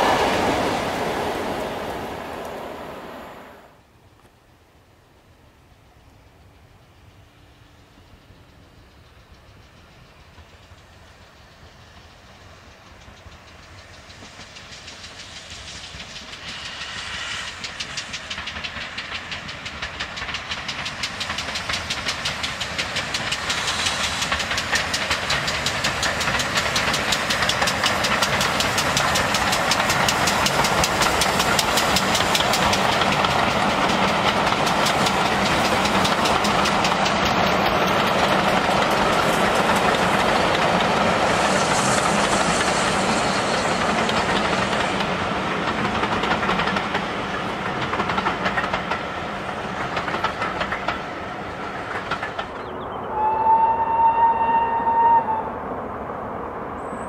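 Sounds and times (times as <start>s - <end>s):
train coaches rolling past: 0.0s - 4.0s, 4.6s - 57.0s
steam locomotive exhaust beats: 5.6s - 55.5s.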